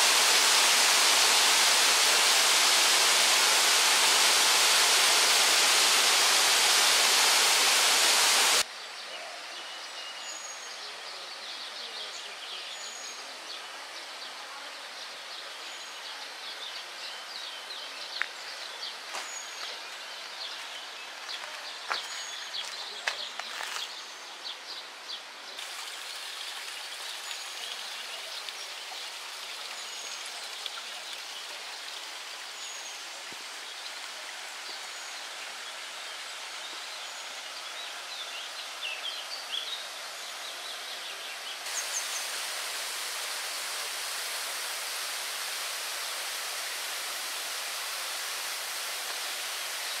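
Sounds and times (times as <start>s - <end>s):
rush of falling water: 0.0s - 8.7s, 10.0s - 50.0s
quiet water hiss: 0.0s - 50.0s.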